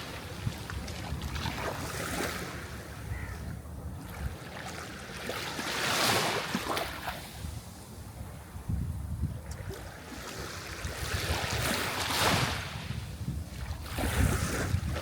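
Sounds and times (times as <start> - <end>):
sea waves washing: 0.0 - 3.3, 4.0 - 8.6, 9.6 - 15.0.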